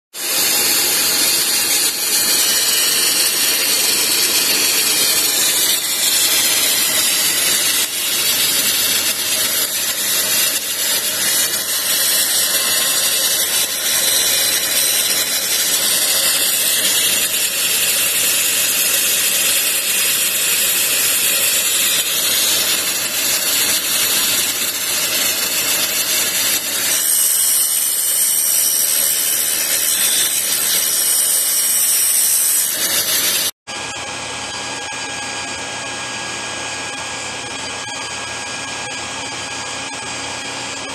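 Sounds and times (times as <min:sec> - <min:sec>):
grinding wheel hiss: 0:00.2 - 0:33.5
motor running: 0:00.3 - 0:33.5.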